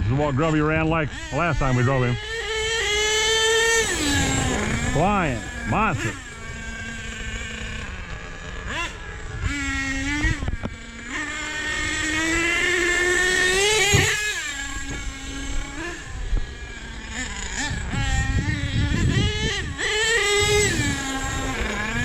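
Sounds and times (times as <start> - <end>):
small nitro engine revving: 0.0 - 22.0.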